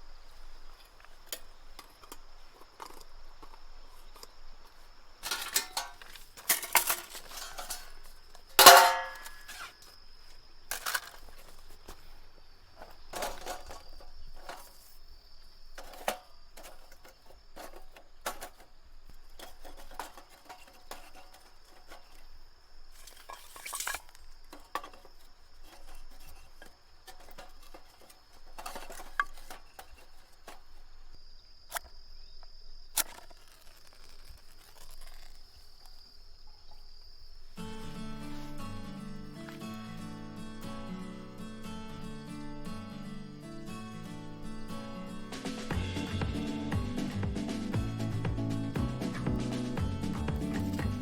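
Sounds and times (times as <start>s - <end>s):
high insect trill: 0.0s - 51.0s
camp cookware clinking: 0.6s - 31.8s, 37.6s - 51.0s.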